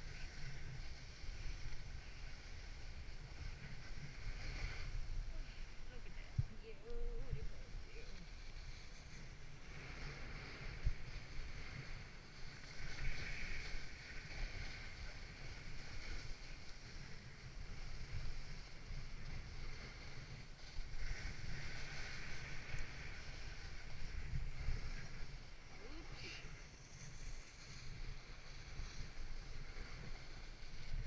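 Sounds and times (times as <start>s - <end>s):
hiss of sliding on snow: 0.0s - 31.0s
wind buffeting microphone: 0.0s - 31.0s.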